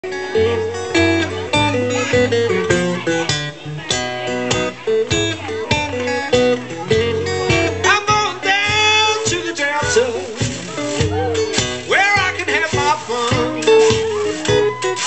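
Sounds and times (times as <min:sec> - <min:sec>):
acoustic guitar strummed and picked: 0:00.0 - 0:15.0.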